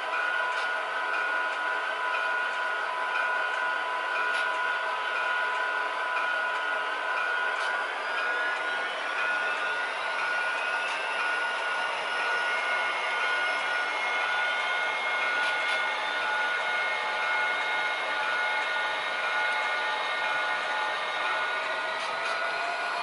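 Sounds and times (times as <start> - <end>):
model locomotive engine sound drone: 0.0 - 23.0.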